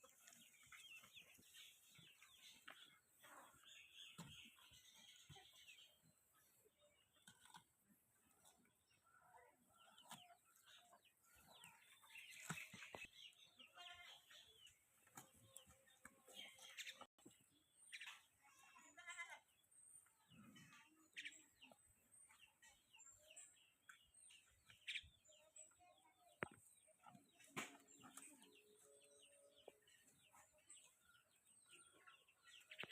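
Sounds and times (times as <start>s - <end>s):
chickens clucking: 0.0s - 18.4s, 20.0s - 32.9s
small birds chirping: 0.0s - 32.9s.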